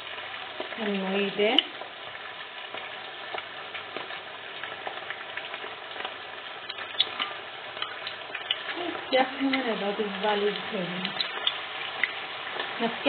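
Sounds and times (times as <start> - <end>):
meatballs sizzling in oil: 0.0 - 13.0.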